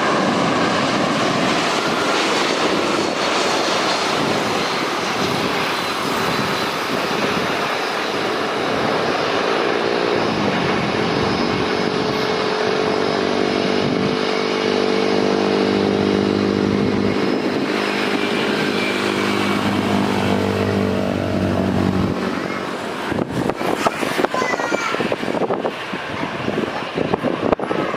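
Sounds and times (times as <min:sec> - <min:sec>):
pitched engine hum: 0:00.0 - 0:24.0
airliner jet noise: 0:00.0 - 0:27.9.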